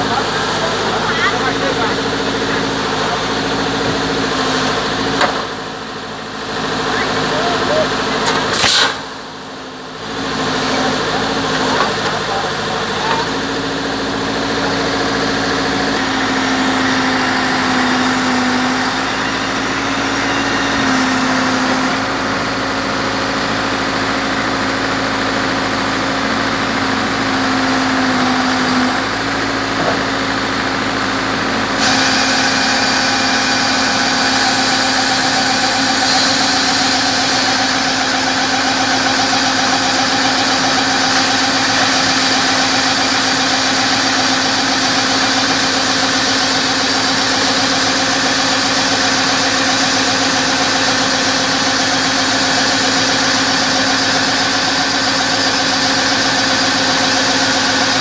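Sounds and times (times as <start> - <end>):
drilling rig engine running: 0.0 - 58.0.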